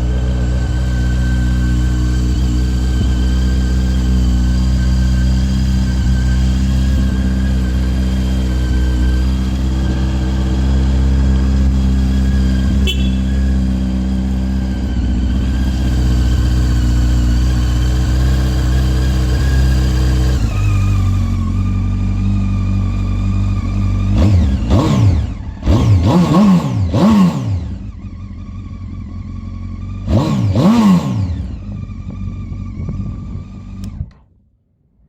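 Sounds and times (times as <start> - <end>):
engine revving on throttle blips: 0.0 - 29.2, 29.8 - 34.2
motorcycle engine idling: 0.0 - 30.6, 31.3 - 34.1.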